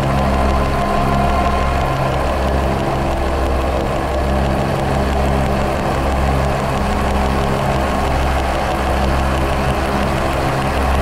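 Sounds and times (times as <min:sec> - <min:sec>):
dense rumbling drone: 0:00.0 - 0:11.0.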